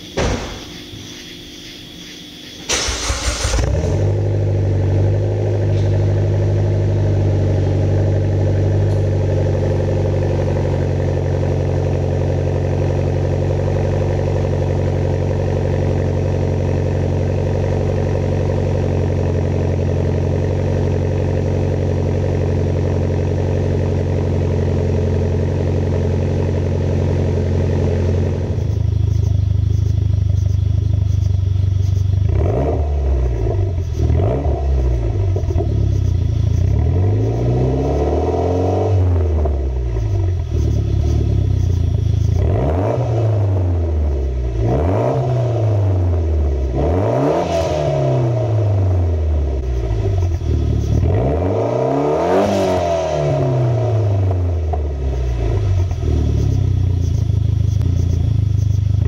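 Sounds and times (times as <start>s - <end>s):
car engine idling: 0.0s - 45.0s, 53.3s - 59.0s
engine revving: 2.6s - 59.0s.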